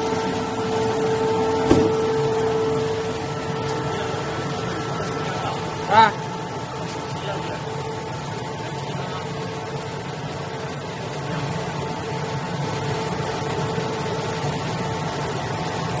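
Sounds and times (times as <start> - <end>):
printing machine hum with whine: 0.0 - 16.0.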